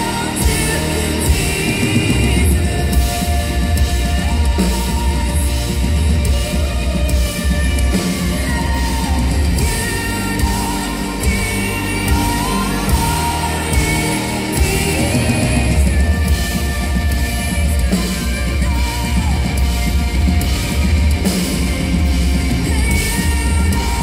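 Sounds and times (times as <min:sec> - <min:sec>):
live band music: 0:00.0 - 0:24.0
woman singing: 0:00.0 - 0:24.0.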